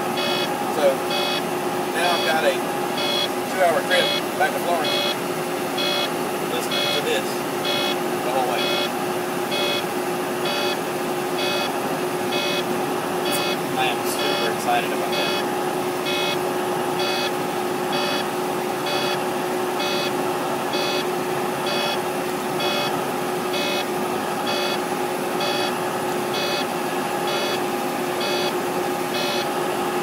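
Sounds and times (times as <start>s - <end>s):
truck engine drone: 0.0s - 30.0s
warning buzzer beeping: 0.2s - 0.5s, 1.1s - 1.4s, 2.0s - 5.2s, 5.8s - 10.8s, 11.4s - 16.4s, 17.0s - 19.2s, 19.8s - 22.0s, 22.6s - 26.7s, 27.3s - 27.6s, 28.2s - 29.5s.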